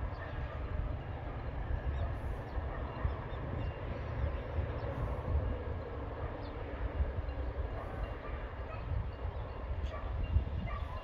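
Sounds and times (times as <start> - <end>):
train passing rumble: 0.0 - 11.0.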